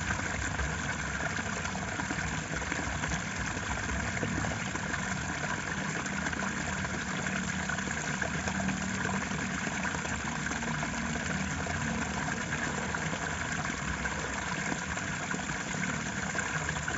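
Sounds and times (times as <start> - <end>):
flowing water rushing: 0.0 - 16.9.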